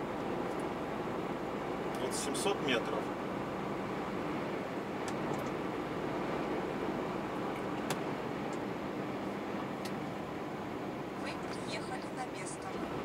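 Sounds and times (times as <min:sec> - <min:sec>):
road noise: 0:00.0 - 0:13.0
truck engine hum: 0:00.0 - 0:13.0.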